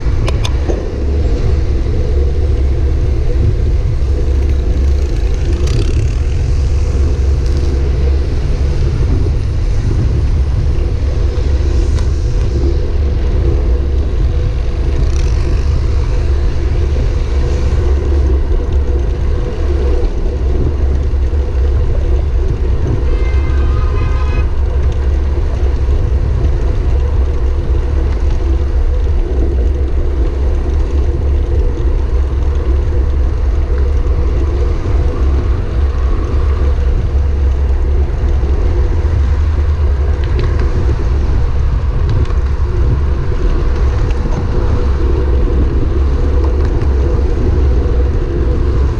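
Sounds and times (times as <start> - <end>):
road noise: 0.0 - 48.9
wind buffeting microphone: 0.0 - 48.9.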